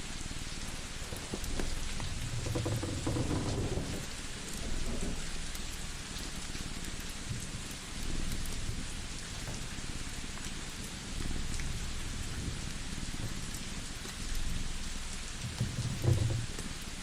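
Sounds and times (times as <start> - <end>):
crackling wood fire: 0.0 - 17.0.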